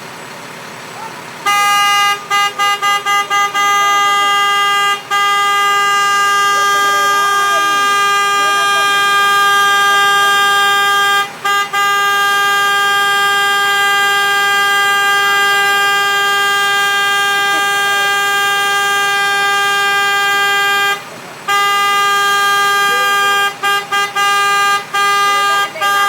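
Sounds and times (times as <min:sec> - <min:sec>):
truck horn blaring: 0:01.0 - 0:26.0.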